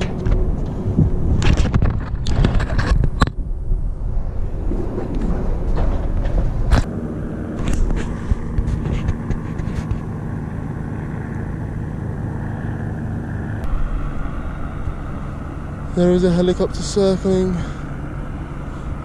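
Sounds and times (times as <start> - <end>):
helicopter rotors droning: 0.0 - 19.0.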